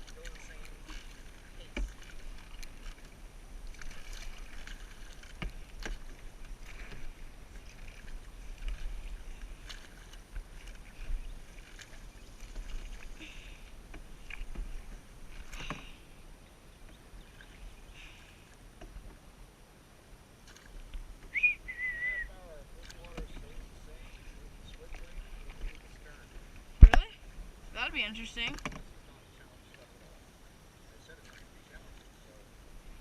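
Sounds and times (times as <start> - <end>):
canoe paddles splashing in water: 0.0 - 33.0.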